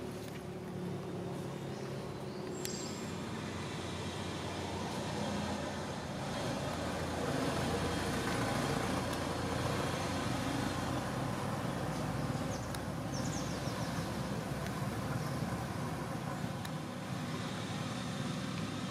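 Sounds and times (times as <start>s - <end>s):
low rumble of traffic: 0.0s - 18.9s.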